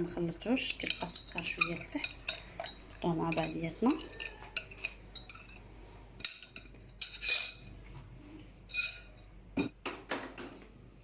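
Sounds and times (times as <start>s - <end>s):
utensils and saucepan clinking: 0.0s - 7.8s, 8.7s - 9.8s.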